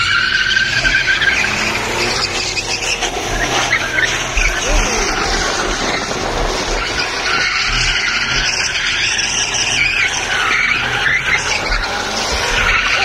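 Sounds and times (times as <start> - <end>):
car engine rumbling: 0.0 - 13.0
tyres squealing on asphalt: 0.0 - 13.0.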